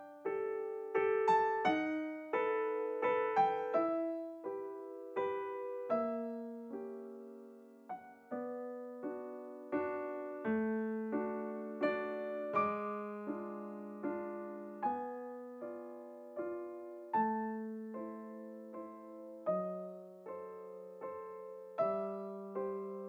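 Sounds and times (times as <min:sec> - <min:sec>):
soft piano music: 0:00.0 - 0:23.0.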